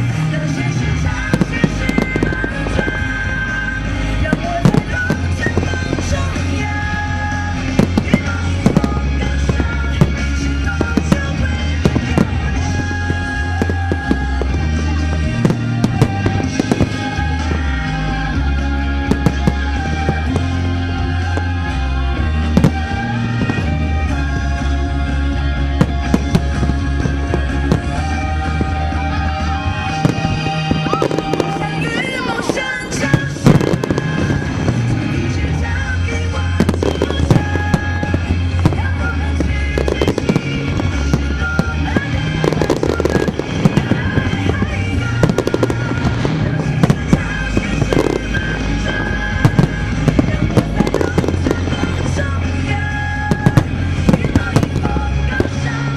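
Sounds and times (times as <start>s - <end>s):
fireworks bangs: 0.0s - 55.9s
music with heavy bass: 0.0s - 55.9s.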